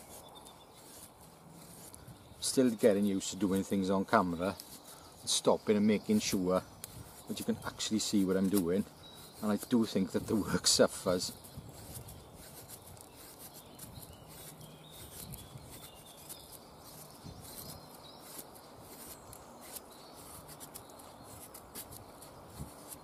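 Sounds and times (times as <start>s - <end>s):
knife scraping wood: 0.0s - 23.0s.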